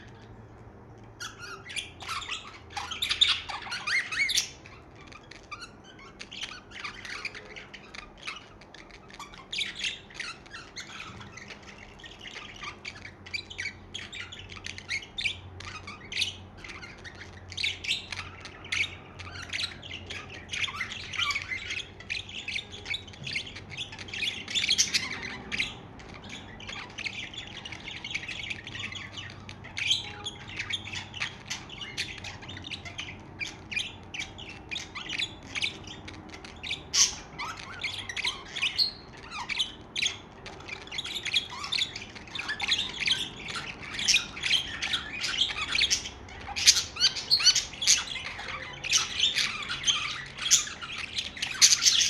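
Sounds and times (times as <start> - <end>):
budgerigars chirping: 0.0 - 52.0.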